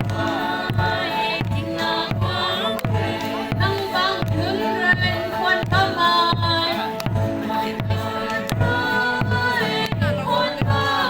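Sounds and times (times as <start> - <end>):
song with several voices: 0.0 - 11.0.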